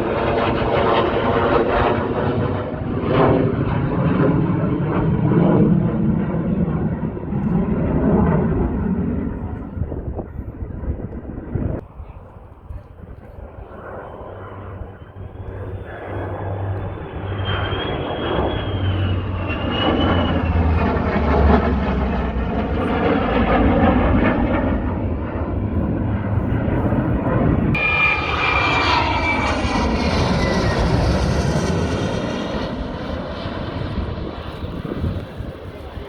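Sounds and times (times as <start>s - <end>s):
fighter jet flying past: 0.0s - 36.0s.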